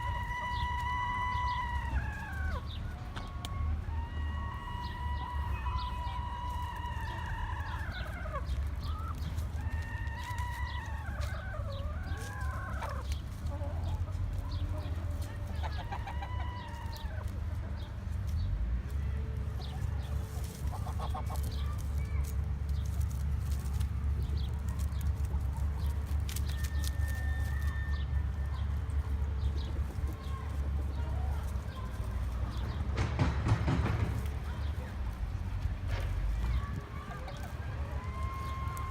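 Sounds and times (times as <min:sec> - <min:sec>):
chickens clucking: 0:00.0 - 0:38.9
roosters crowing: 0:00.0 - 0:38.9.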